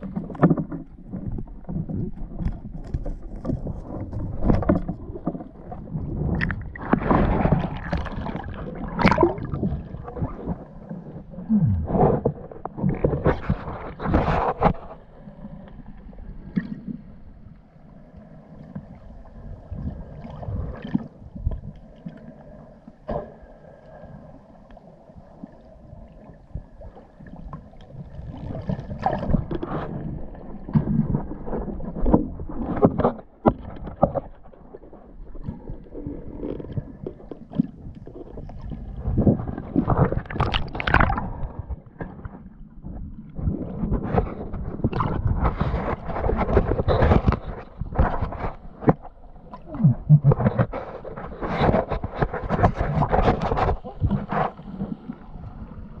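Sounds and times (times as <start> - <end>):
underwater water swishes and gurgles: 0.0 - 56.0.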